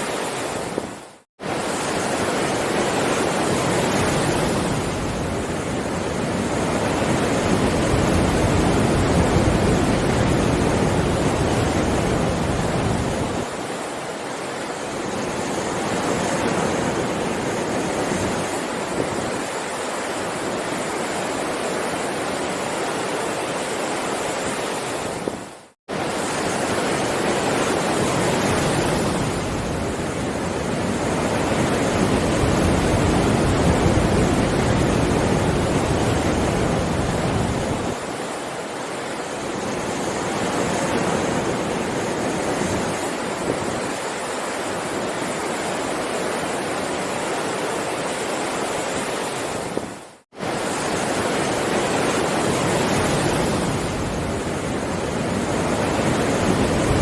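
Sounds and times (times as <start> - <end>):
heavy sea waves surging: 0.0 - 57.0.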